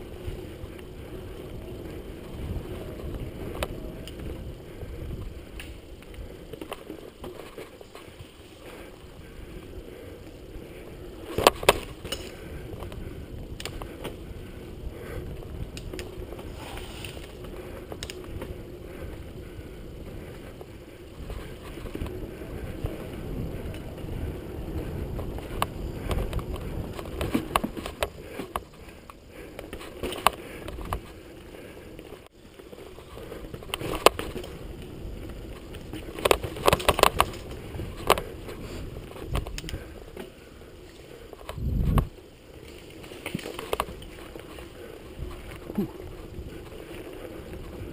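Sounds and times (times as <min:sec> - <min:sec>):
bike rattling over bumps: 0:00.0 - 0:47.9
bike tyres and wind rumbling: 0:00.0 - 0:47.9.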